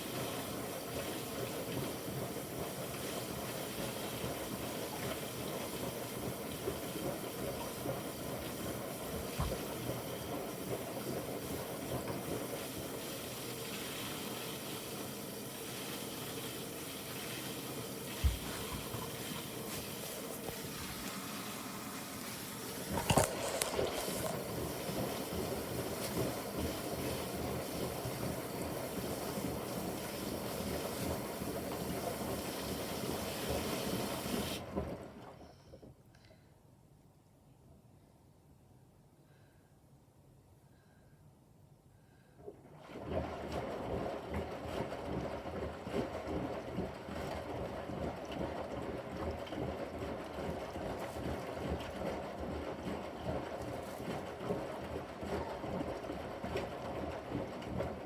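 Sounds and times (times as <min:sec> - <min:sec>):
water hissing in washing machine: 0:00.0 - 0:35.7, 0:42.6 - 0:58.0.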